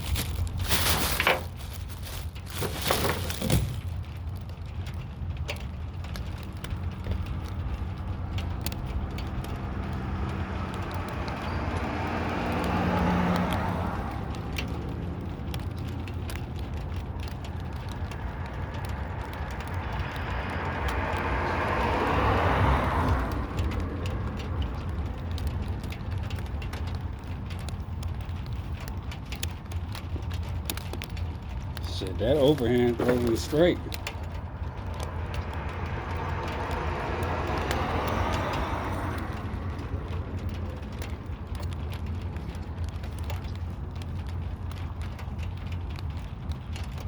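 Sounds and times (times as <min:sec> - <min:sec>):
vehicles driving past: 0:00.0 - 0:47.0
wind rumble on microphone: 0:00.0 - 0:47.0.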